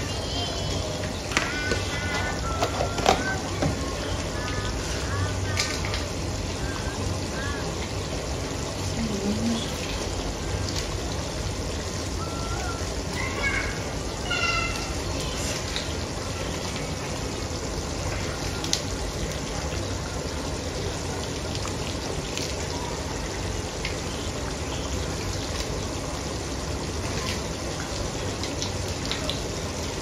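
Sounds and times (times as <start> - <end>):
stew boiling and bubbling: 0.0 - 30.0.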